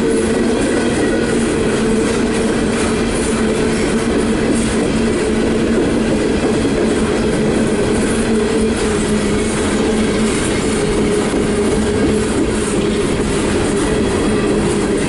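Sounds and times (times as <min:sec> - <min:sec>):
freight train wheels clattering: 0:00.0 - 0:15.0.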